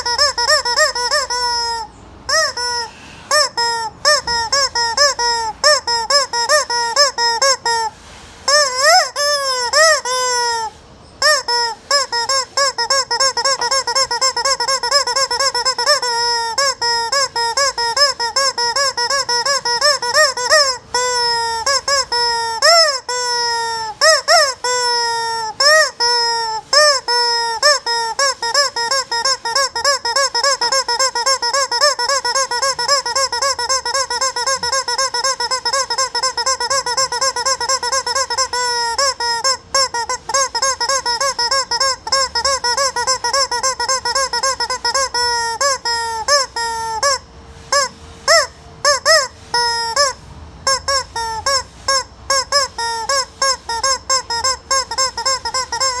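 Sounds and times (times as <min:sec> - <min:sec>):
rubber chicken toy squawking: 0:00.0 - 0:56.0.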